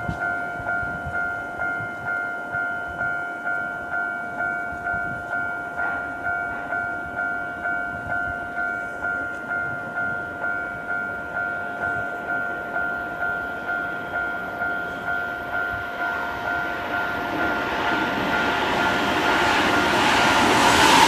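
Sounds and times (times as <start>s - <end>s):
level crossing warning bell: 0.0s - 21.0s.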